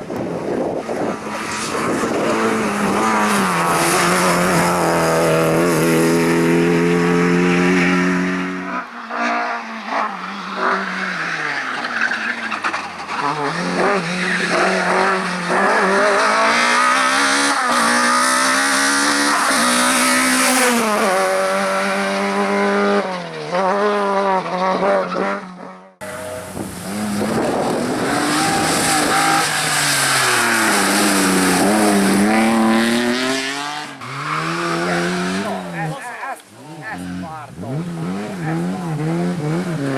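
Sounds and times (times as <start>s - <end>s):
race car engine revving: 0.1s - 39.9s.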